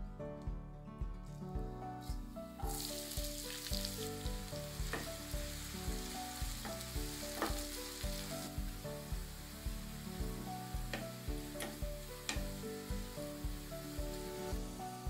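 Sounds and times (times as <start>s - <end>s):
background music with steady beat: 0.0s - 15.0s
onions sizzling in hot oil: 2.6s - 15.0s
wooden spatula stirring in pan: 2.7s - 15.0s.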